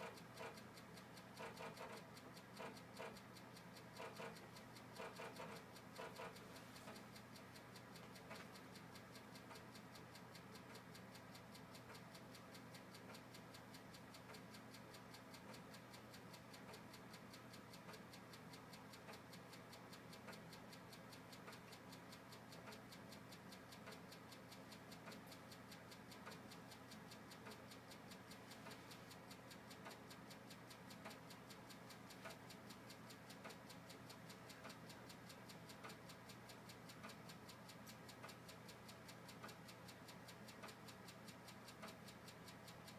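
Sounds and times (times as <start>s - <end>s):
faint rapid ticking: 0.0s - 42.9s.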